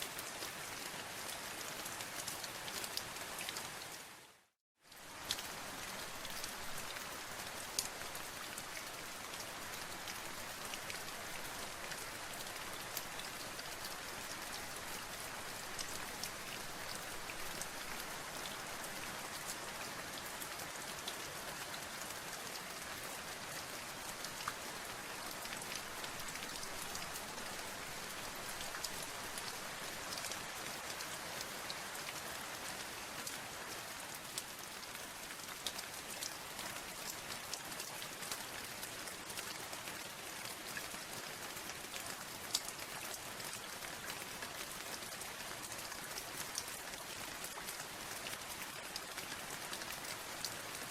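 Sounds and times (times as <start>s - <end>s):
steady rain hiss: 0.0s - 50.9s
raindrops ticking on a surface: 4.8s - 50.9s.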